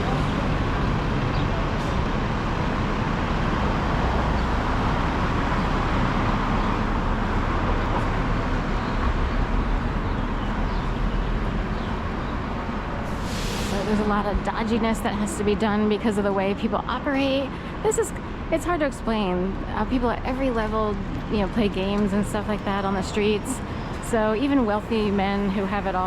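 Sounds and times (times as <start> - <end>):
cars passing: 0.0 - 26.0
road rumble: 0.0 - 26.0.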